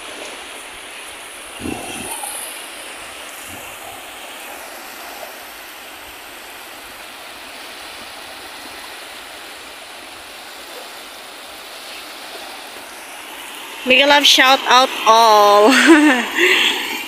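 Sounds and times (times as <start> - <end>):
waves washing on beach: 0.0 - 17.0.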